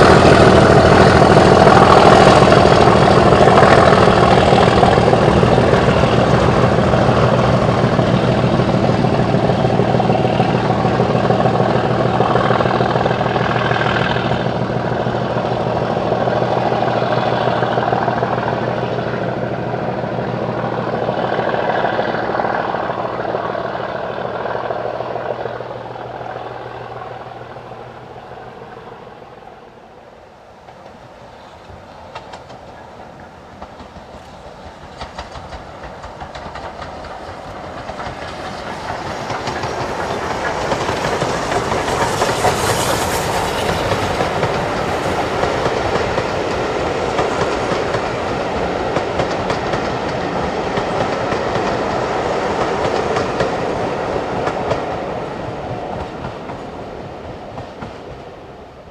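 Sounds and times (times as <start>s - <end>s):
steam train running: 0.0s - 58.9s.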